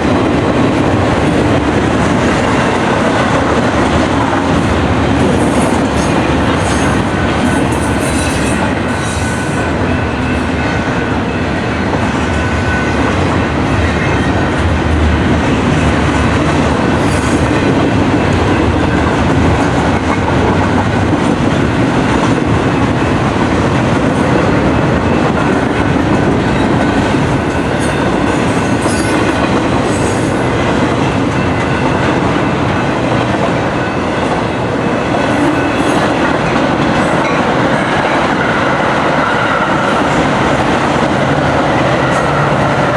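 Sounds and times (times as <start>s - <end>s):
freight train wheels rumbling on rails: 0.0s - 42.9s.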